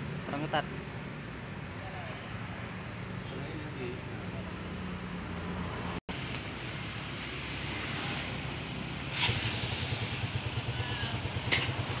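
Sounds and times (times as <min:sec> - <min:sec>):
vehicle engine running: 0:00.0 - 0:07.4, 0:08.2 - 0:12.0.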